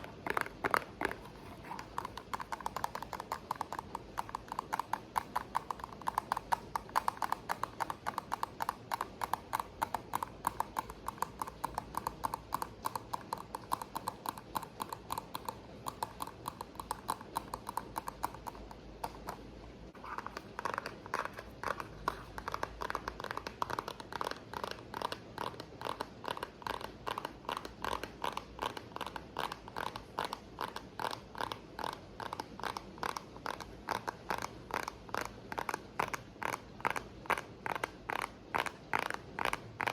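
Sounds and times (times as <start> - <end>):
rapid tapping on hard object: 0.0 - 39.9.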